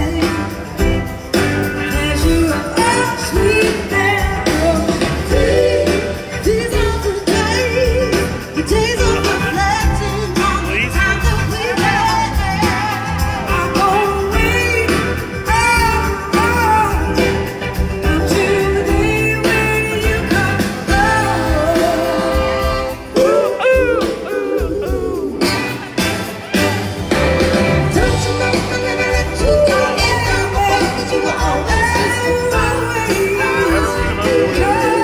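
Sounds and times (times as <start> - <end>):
lead vocal singing: 0.0 - 25.9, 26.6 - 35.0
live soul-rock band: 0.0 - 35.0.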